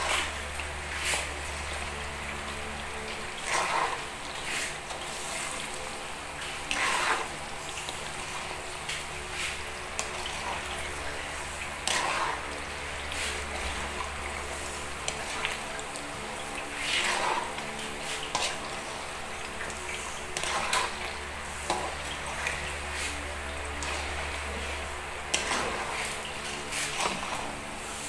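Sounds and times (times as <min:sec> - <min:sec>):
metal spatula scraping a wok: 0:00.0 - 0:01.4, 0:03.1 - 0:05.8, 0:06.4 - 0:28.0
food sizzling in hot oil: 0:00.0 - 0:28.0.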